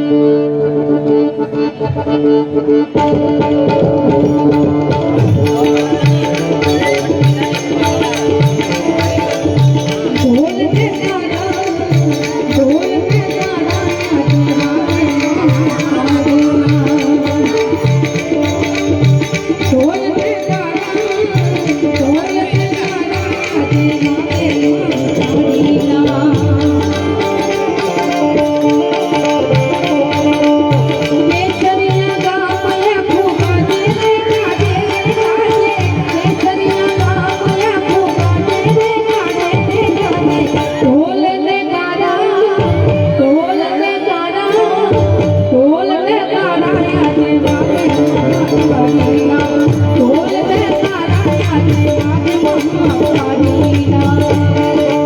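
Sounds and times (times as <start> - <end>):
folk music: 0.0 - 55.0
hand drum beating: 4.2 - 40.9, 47.0 - 55.0.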